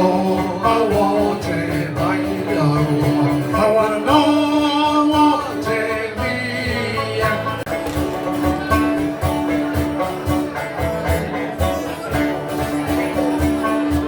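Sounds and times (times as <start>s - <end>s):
banjo playing: 0.0s - 14.0s
twelve-string guitar: 0.0s - 14.0s.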